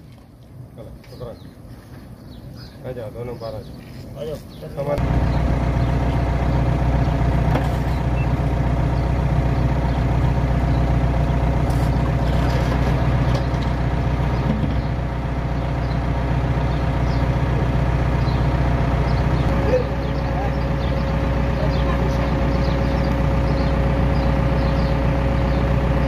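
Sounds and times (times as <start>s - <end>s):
diesel engine idling: 4.9s - 26.0s.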